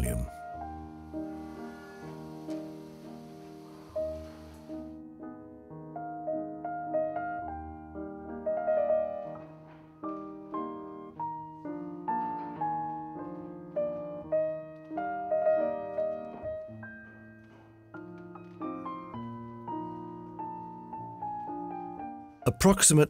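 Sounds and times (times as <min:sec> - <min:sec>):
solo piano music: 0:00.0 - 0:23.0.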